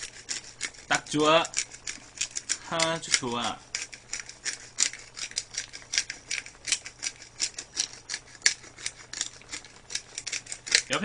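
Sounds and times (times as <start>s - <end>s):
pepper grinder grinding: 0.0s - 11.0s.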